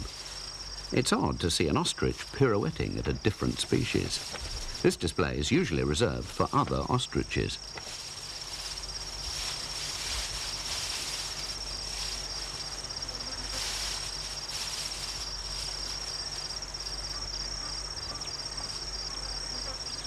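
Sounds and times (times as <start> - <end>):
crickets trilling: 0.0 - 20.0
soft natural hiss: 0.0 - 20.0.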